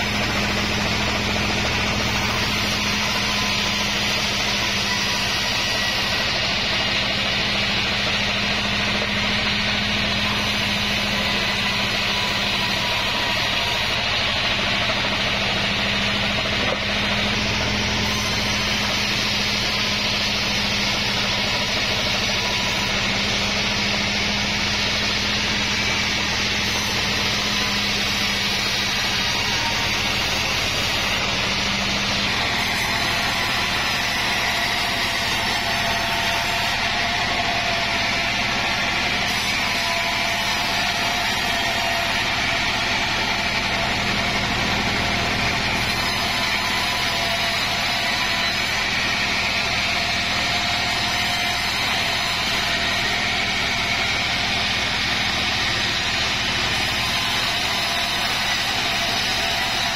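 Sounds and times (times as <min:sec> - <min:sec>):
band saw cutting log: 0:00.0 - 0:59.9
motor hum: 0:00.0 - 0:59.9.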